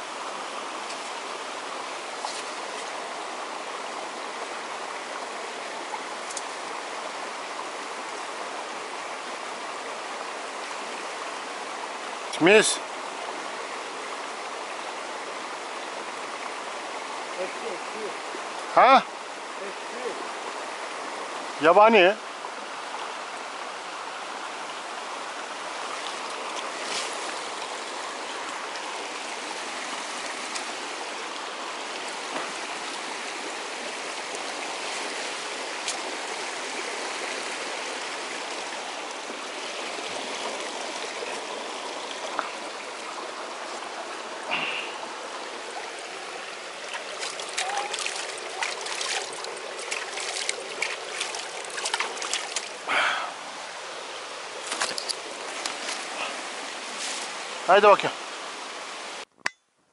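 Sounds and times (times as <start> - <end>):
stream water running: 0.0 - 59.6.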